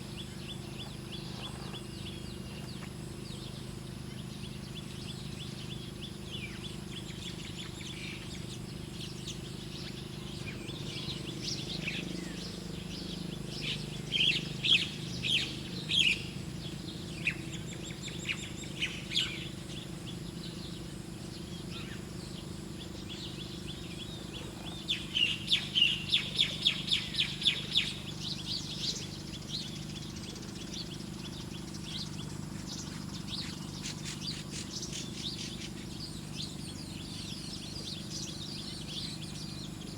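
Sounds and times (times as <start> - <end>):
bird chirping: 0.0 - 39.9
steady low hum: 0.0 - 39.9.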